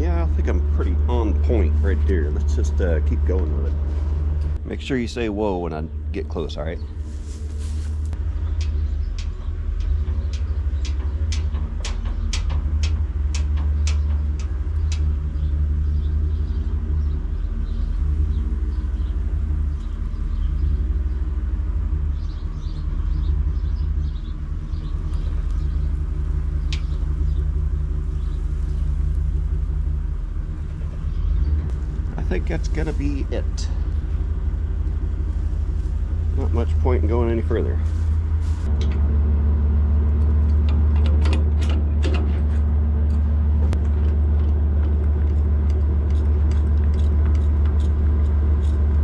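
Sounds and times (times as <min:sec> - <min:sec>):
farm machine engine running: 0:00.0 - 0:49.0.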